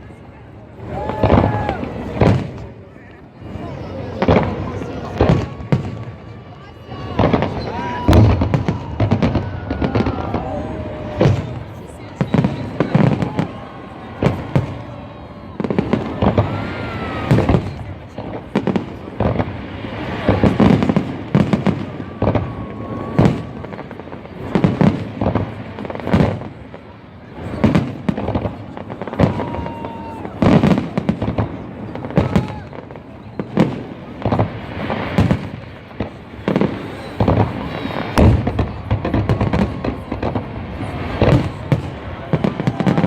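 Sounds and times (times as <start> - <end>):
fireworks booming and cracking: 0.0 - 43.0.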